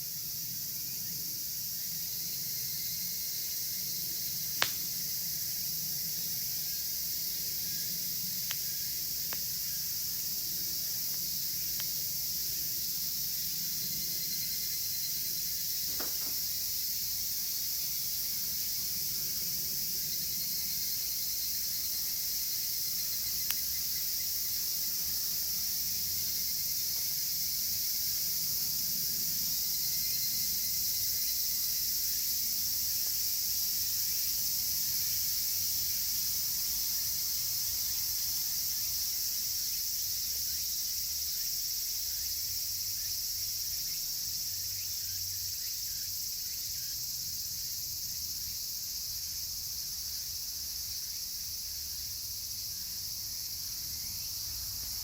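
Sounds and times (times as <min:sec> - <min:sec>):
cicadas shrilling: 0:00.0 - 0:55.0.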